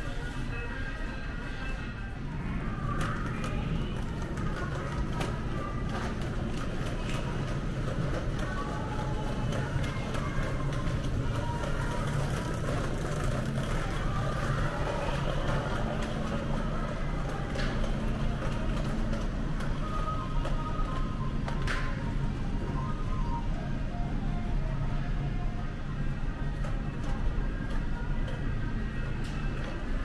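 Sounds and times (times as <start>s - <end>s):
refrigerated display cases humming: 0.0s - 30.0s.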